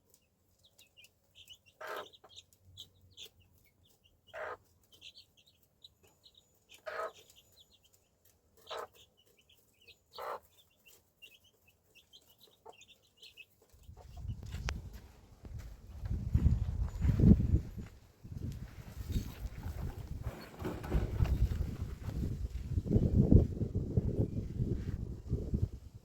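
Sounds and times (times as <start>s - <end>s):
chickens clucking: 0.0s - 17.6s, 19.0s - 23.4s.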